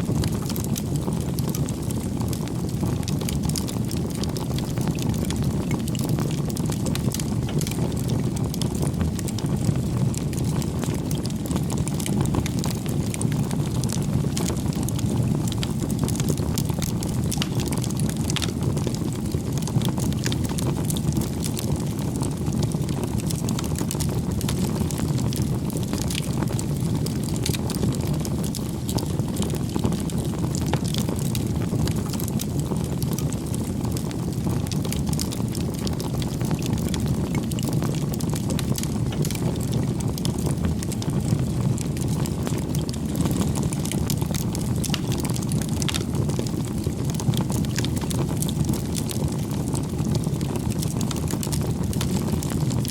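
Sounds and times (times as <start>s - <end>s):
fire crackling and popping: 0.0s - 52.9s
fire flames rumbling: 0.0s - 52.9s.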